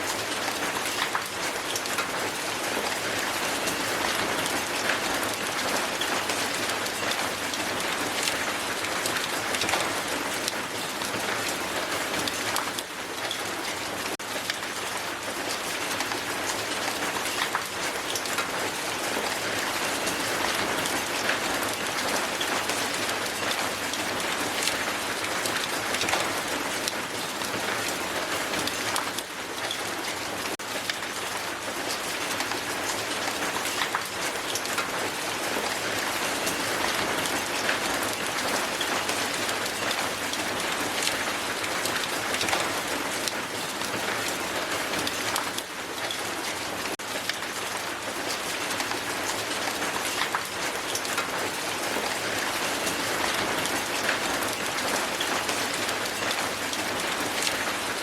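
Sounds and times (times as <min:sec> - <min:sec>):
hail hitting the ground: 0:00.0 - 0:58.0.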